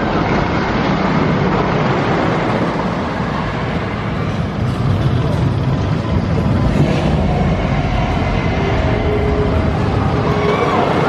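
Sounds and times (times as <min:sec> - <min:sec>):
roller coaster running on track: 0:00.0 - 0:11.0.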